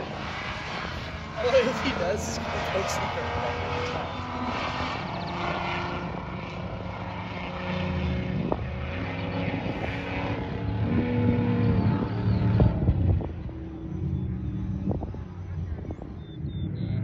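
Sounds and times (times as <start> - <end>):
race vehicle engines revving: 0.0 - 17.0.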